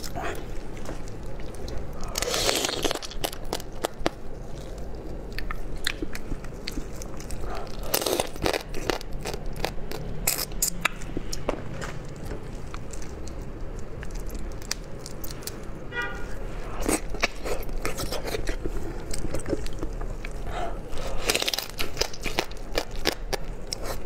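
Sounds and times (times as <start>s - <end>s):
chewing crunchy seafood: 0.0s - 24.0s.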